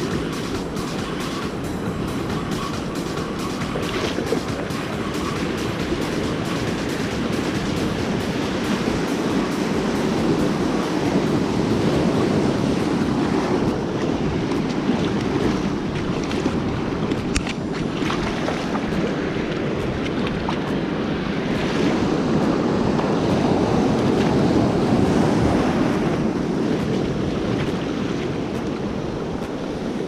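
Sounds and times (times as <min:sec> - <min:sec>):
surf washing onto beach: 0:00.0 - 0:30.0
wind buffeting microphone: 0:00.0 - 0:30.0.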